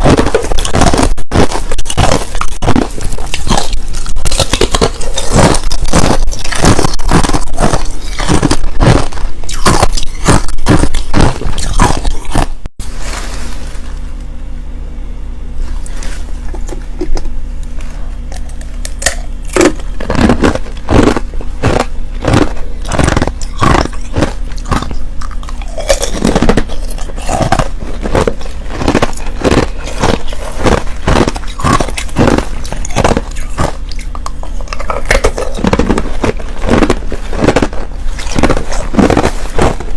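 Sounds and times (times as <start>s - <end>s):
crushed ice being chewed: 0.0s - 14.0s, 15.6s - 39.9s
faint low hum: 0.0s - 39.9s.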